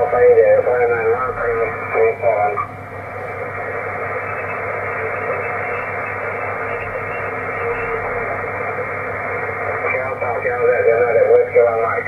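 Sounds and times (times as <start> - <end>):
radio band noise hiss: 0.0 - 12.0.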